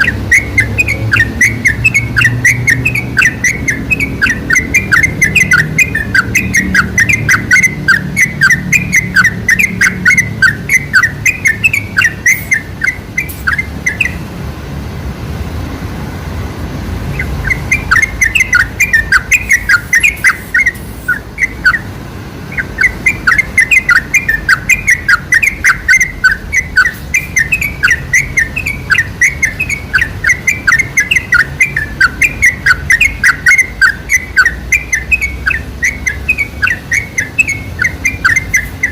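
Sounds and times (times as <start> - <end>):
bulbul chattering song: 0.0 - 14.5, 17.0 - 38.9.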